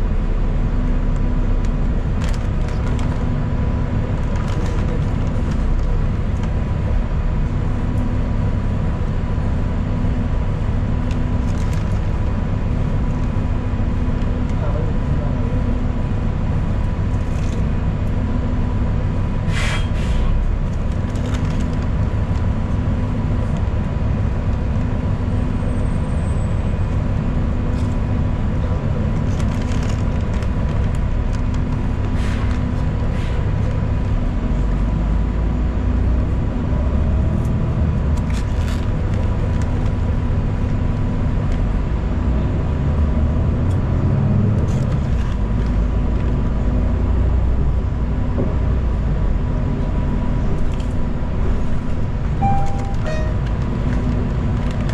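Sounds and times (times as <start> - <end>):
bus engine and road drone: 0.0 - 54.9.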